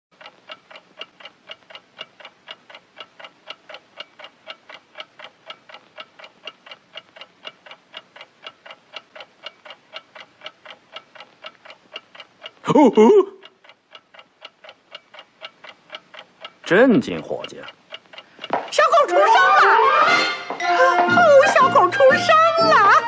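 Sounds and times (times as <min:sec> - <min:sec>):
clock ticking: 0:00.2 - 0:23.0.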